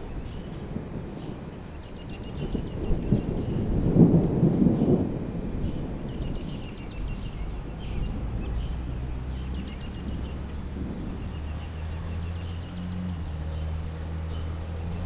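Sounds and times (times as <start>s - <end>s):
rolling thunder: 0.0s - 15.0s.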